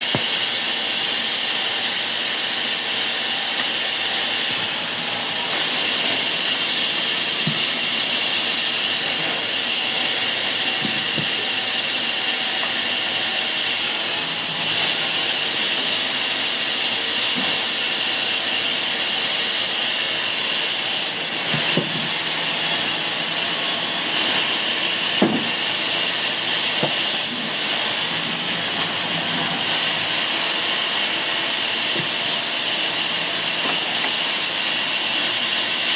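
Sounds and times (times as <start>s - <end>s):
sawmill saw hissing: 0.0s - 35.9s.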